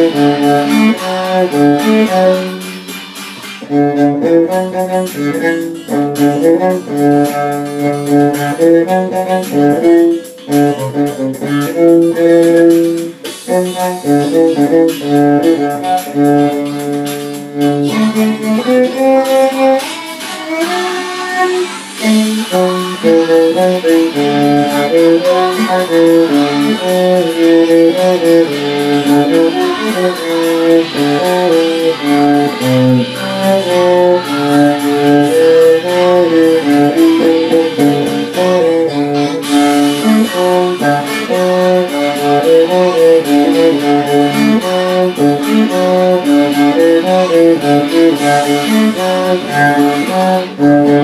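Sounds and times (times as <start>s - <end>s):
bowed cello melody: 0.0s - 51.0s.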